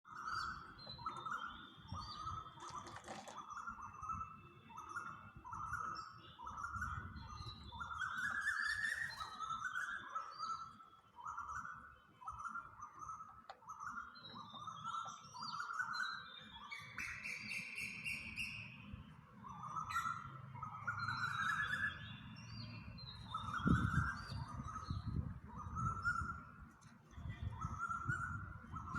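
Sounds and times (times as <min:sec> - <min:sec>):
birds chirping: 0:00.1 - 0:28.9.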